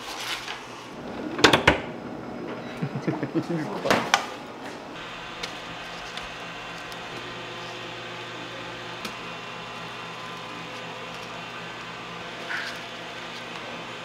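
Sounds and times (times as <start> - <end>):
kitchen machinery humming: 0.0 - 14.0.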